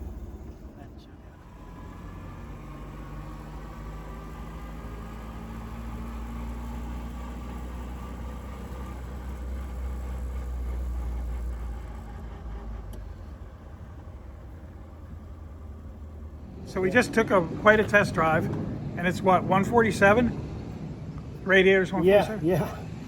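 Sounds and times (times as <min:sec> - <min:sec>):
car engine low drone: 0:00.0 - 0:23.0.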